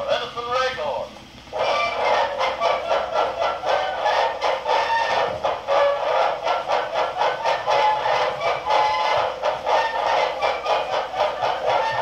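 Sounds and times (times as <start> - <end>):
tinny phonograph recording: 0.0 - 12.0.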